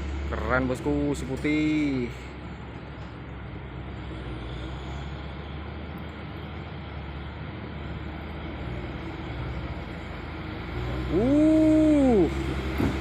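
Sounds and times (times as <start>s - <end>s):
diesel truck engine passing: 0.0s - 13.0s.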